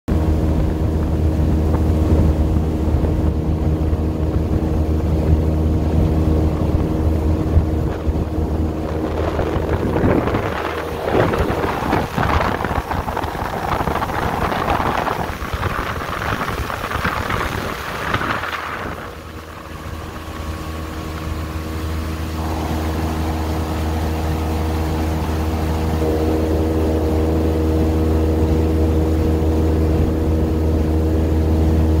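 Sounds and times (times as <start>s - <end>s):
outboard motor running: 0.1s - 32.0s
wind and wake water rushing: 0.1s - 32.0s.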